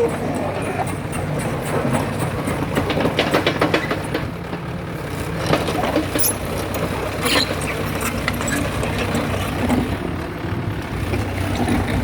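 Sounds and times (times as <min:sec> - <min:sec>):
rattling clicks and clanks: 0:00.0 - 0:10.0
excavator diesel engine running: 0:00.0 - 0:12.0.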